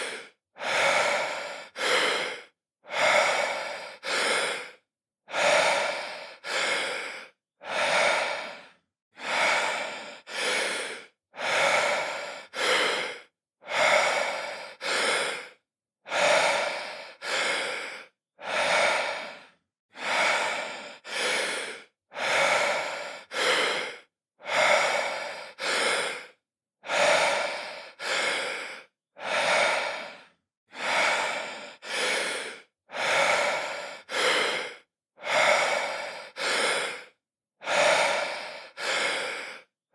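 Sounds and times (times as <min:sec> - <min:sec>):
man breathing deeply: 0:00.0 - 0:39.7.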